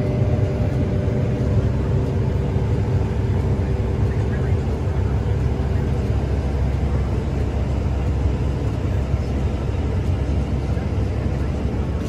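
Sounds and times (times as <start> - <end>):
combine harvester engine and machinery: 0.0 - 12.0.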